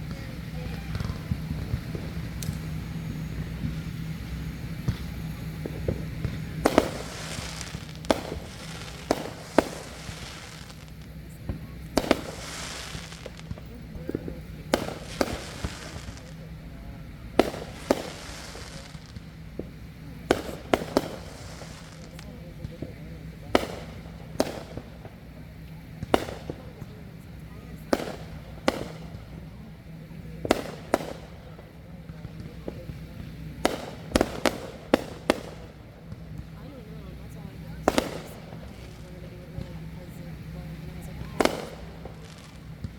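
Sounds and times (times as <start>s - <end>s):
crackling sparkle: 0.0s - 42.9s
fireworks bangs: 0.0s - 42.9s
low hum: 0.0s - 42.9s.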